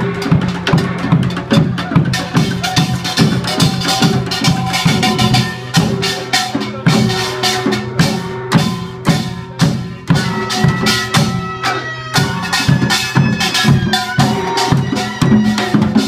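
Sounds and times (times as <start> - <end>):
drums in fast dense rhythm: 0.0 - 16.0
small gongs clanging: 0.0 - 16.0.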